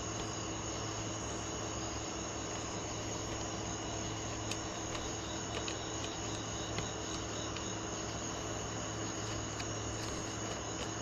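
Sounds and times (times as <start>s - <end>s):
background hiss and hum: 0.0s - 11.0s
high steady whine: 0.0s - 11.0s.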